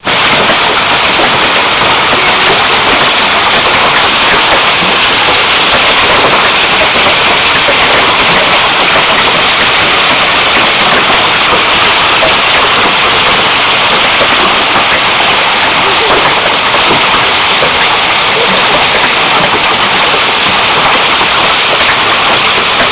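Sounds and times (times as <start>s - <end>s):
hail pelting down: 0.0s - 22.9s.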